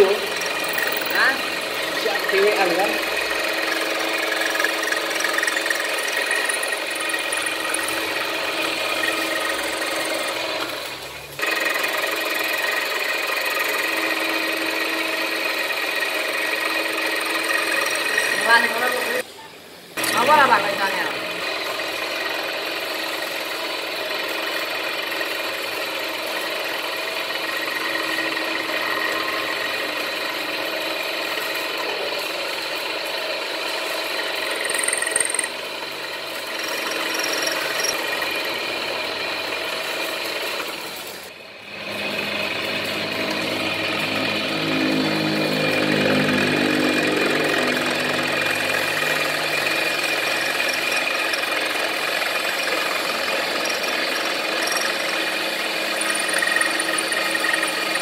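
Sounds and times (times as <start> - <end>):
power tool whining: 0.0 - 19.3, 19.9 - 58.0.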